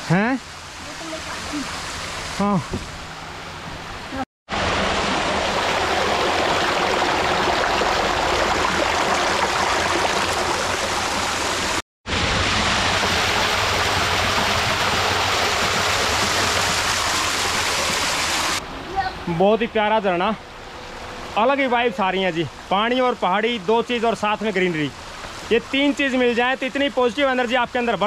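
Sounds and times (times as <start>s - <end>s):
waterfall splashing over boulders: 0.0s - 3.1s, 4.1s - 18.6s, 22.0s - 28.0s.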